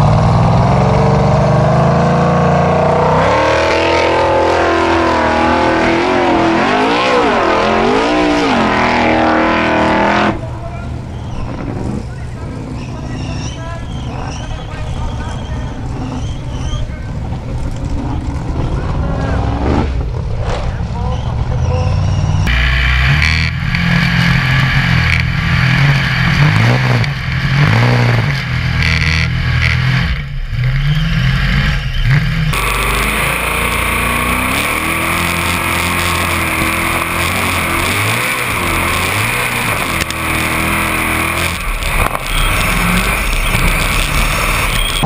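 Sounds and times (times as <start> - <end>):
buggy engine revving: 0.0 - 45.0.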